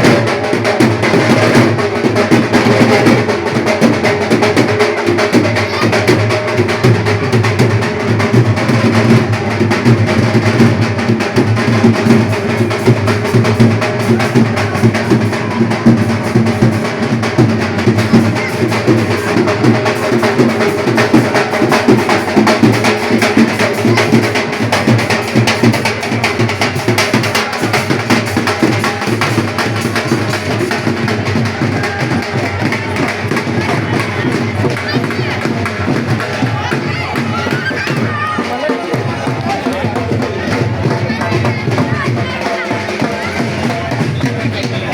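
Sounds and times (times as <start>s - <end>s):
loud fast drumming: 0.0s - 44.9s
music: 0.0s - 44.9s.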